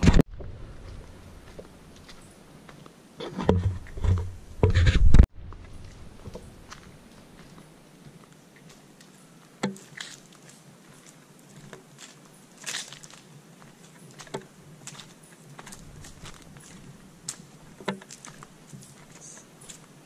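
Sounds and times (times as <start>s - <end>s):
footsteps on gravel path: 0.0s - 4.4s, 5.5s - 20.0s
faint steady hiss: 0.5s - 3.2s, 5.4s - 20.0s.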